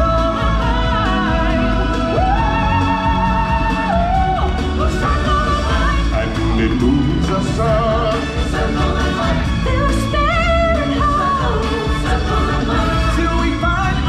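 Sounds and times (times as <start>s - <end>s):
full band with steady bass: 0.0s - 14.0s
singers holding long notes: 0.0s - 14.0s.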